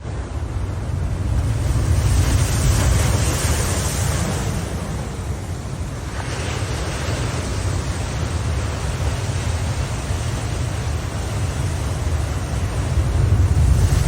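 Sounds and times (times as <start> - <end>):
sea surf breaking: 0.0 - 14.0.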